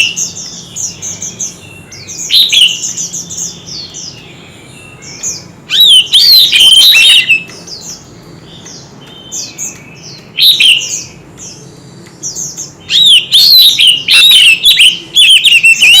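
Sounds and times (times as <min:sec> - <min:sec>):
bird singing whistled phrases: 0:00.0 - 0:07.5, 0:08.5 - 0:11.2, 0:12.8 - 0:16.0.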